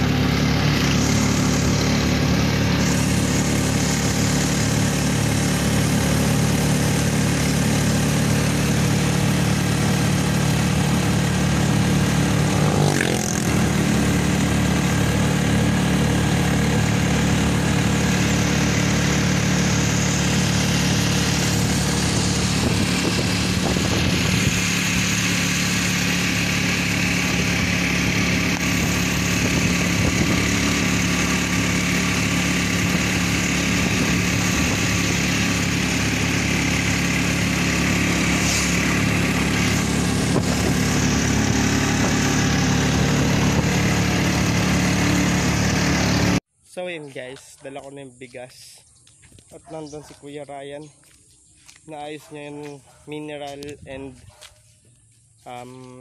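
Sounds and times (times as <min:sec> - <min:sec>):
motorcycle engine running: 0:00.0 - 0:46.5, 0:49.0 - 0:56.0.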